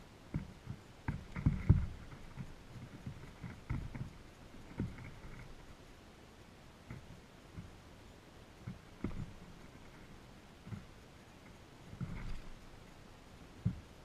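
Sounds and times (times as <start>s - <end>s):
birds pecking on snow: 0.0s - 14.0s.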